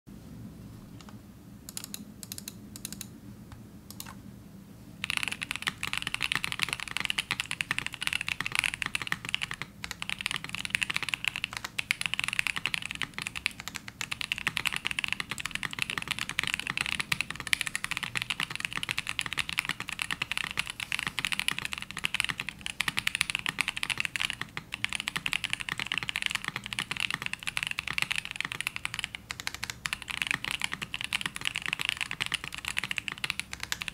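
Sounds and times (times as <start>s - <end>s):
fast mechanical keyboard typing: 5.0s - 33.9s.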